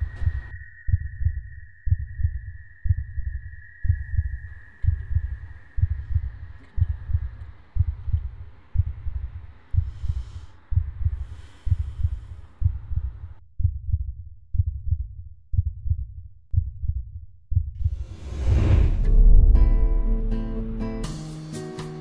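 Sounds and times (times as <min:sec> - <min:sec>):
heartbeat double thumps: 0:00.0 - 0:21.0.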